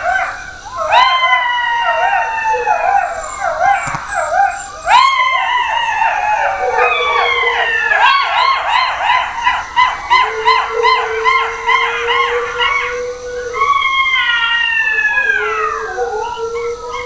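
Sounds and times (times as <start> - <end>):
dogs howling together: 0.0 - 17.0.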